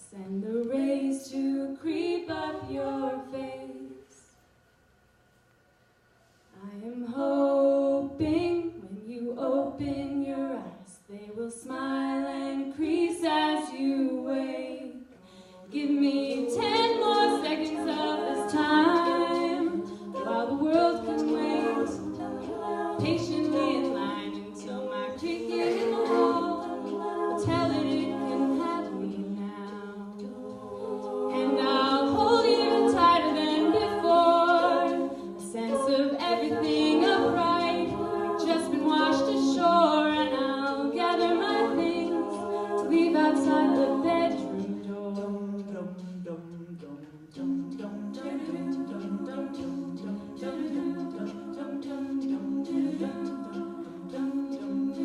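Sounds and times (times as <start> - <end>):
a cappella group singing: 0.0 - 4.3, 6.5 - 55.0.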